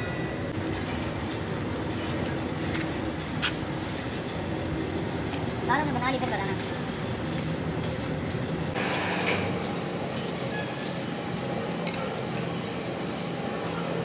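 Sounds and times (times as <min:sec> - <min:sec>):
machinery humming: 0:00.0 - 0:11.8.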